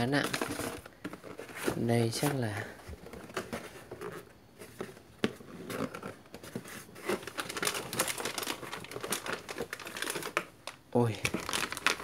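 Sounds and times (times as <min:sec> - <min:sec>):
plastic packaging crinkling: 0:00.0 - 0:04.2, 0:05.4 - 0:12.0
cardboard box handling: 0:00.2 - 0:10.3.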